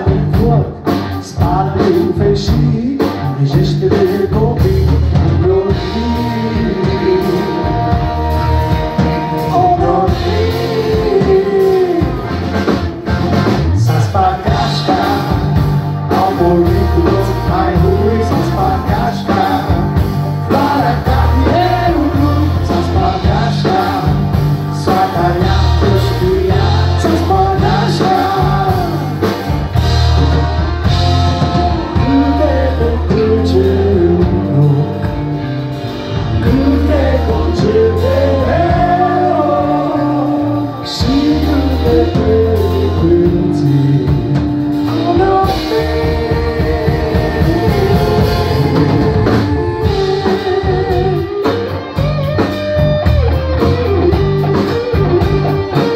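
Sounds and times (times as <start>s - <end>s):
person singing: 0.0s - 8.5s, 9.2s - 12.6s, 13.7s - 29.5s, 30.2s - 35.2s, 36.3s - 51.8s
bass guitar: 0.0s - 55.9s
drum kit: 0.0s - 55.9s
electric guitar: 0.0s - 55.9s.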